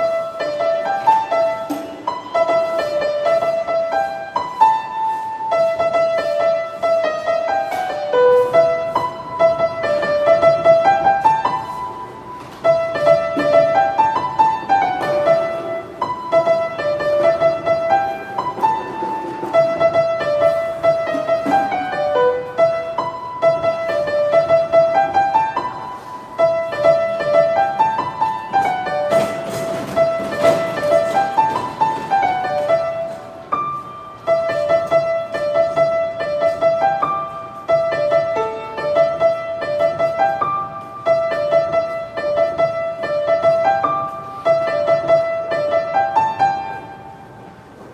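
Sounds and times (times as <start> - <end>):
piano playing pop melody: 0.0 - 47.9.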